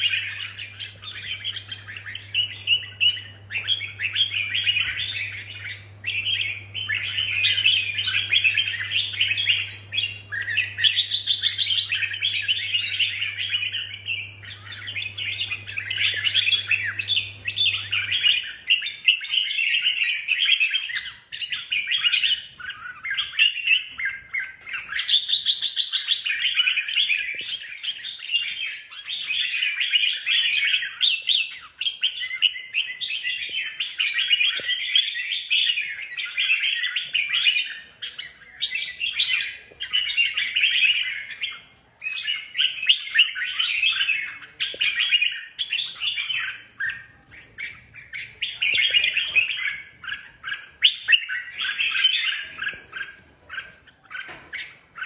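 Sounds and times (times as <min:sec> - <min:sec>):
birds chirping song: 0:00.0 - 0:55.0.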